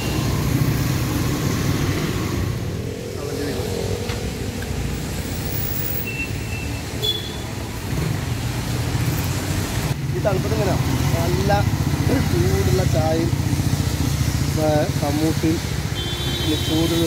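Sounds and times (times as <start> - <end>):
traffic on wet road: 0.0 - 17.0.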